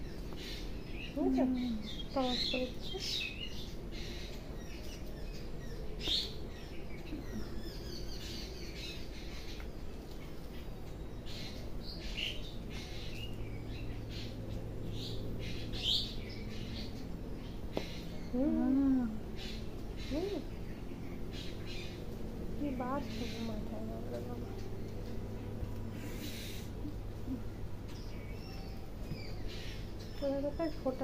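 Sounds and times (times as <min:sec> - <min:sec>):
birds chirping: 0:00.0 - 0:31.0
low background hum: 0:00.0 - 0:31.0.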